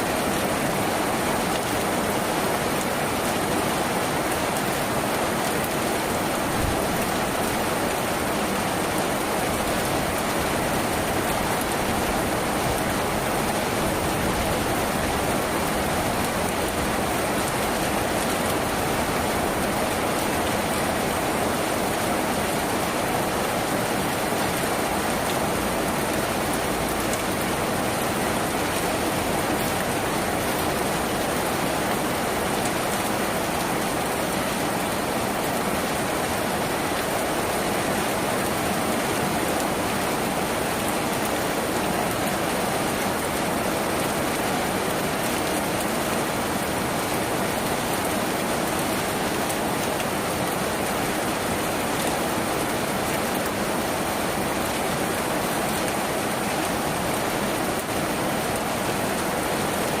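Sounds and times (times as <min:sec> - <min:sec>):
rain on a tin roof: 0:00.0 - 1:00.0.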